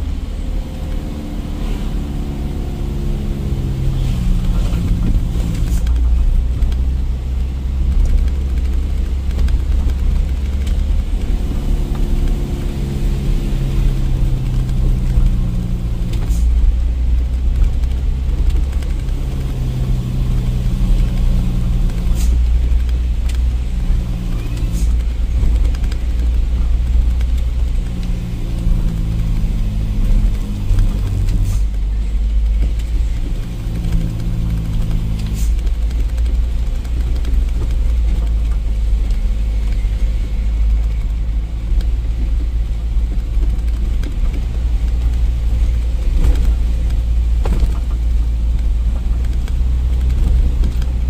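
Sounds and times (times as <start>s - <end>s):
truck engine revving: 0.0s - 51.0s.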